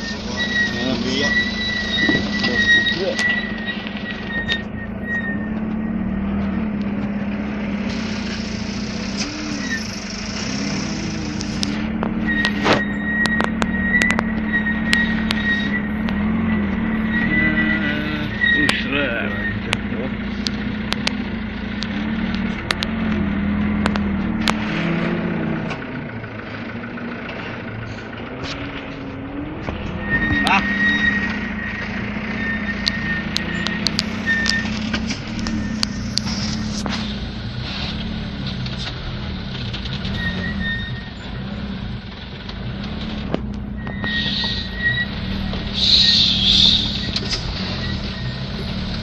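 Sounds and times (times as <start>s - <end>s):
truck diesel engine running: 0.0s - 49.0s.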